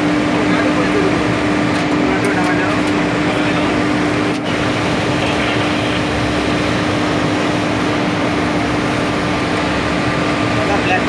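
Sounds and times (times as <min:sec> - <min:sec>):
constant low hum: 0:00.0 - 0:11.0
locomotive machinery drone: 0:00.0 - 0:11.0.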